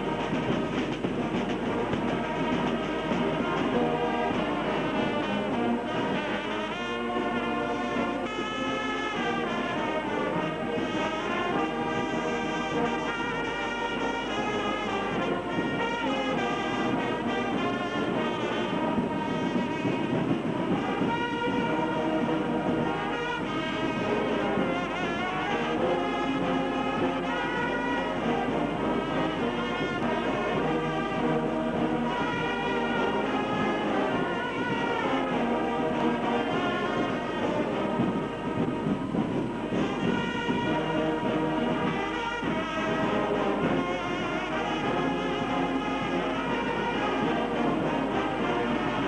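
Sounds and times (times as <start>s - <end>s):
brass ensemble playing: 0.0s - 49.0s.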